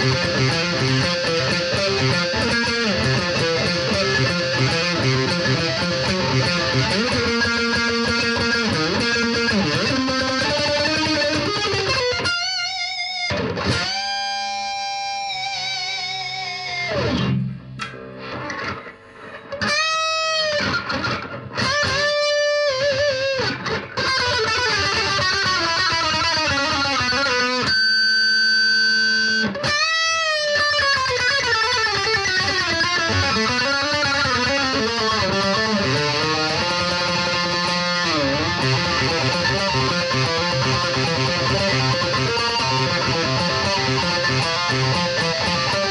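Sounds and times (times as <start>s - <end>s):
distorted electric guitar lead: 0.0s - 45.9s.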